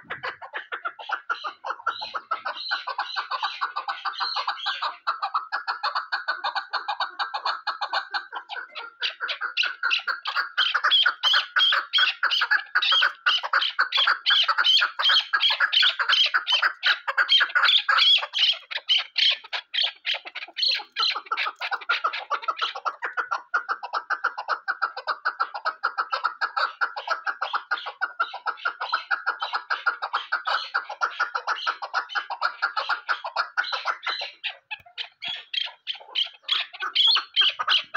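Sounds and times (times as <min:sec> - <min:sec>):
partridge clucking call: 0:00.0 - 0:37.9.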